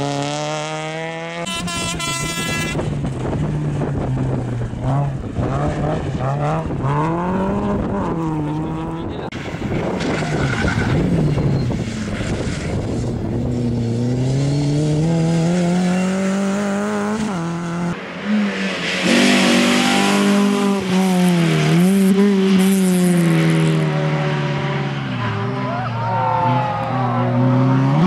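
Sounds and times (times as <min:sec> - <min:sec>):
rally car engines at full throttle: 0:00.0 - 0:28.0.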